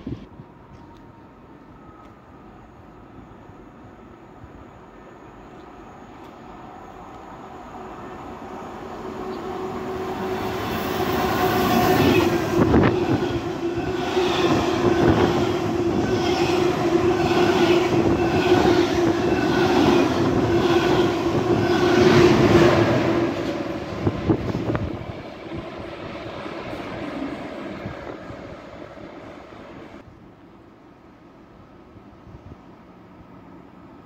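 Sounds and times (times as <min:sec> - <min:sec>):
passenger train humming past: 0:00.0 - 0:34.0.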